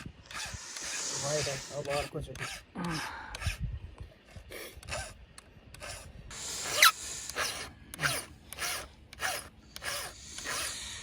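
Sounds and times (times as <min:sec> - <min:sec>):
hand file rasping on chain: 0:00.3 - 0:03.6, 0:04.4 - 0:11.0.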